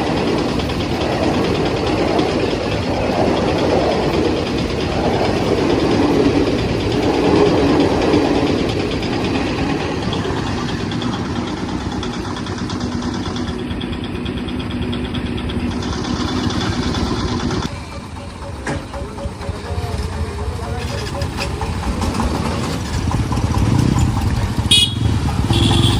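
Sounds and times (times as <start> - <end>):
engine idling: 0.0 - 25.9.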